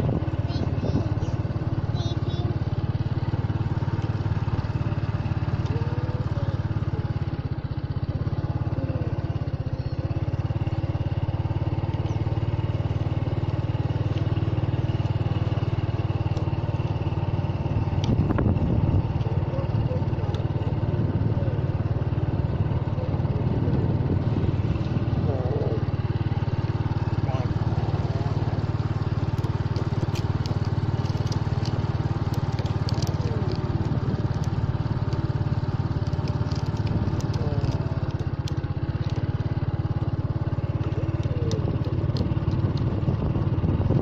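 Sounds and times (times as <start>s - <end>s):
engine clatter: 0.0s - 44.0s
engine running steadily: 0.0s - 44.0s.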